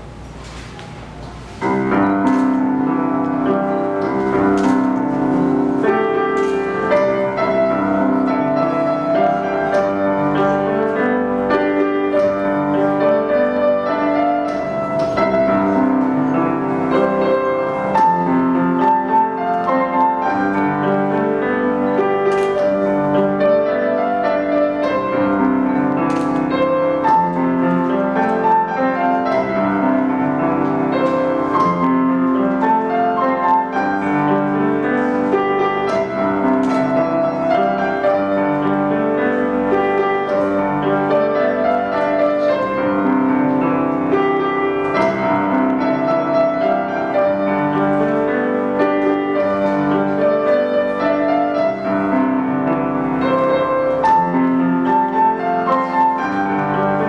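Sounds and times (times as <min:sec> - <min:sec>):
solo piano melody: 0:00.0 - 0:57.0.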